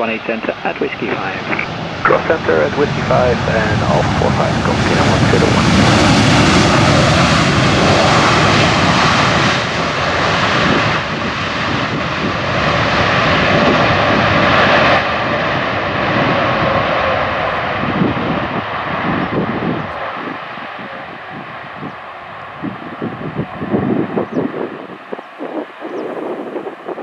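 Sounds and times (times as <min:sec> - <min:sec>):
jet airliner engines passing: 0:00.0 - 0:27.0.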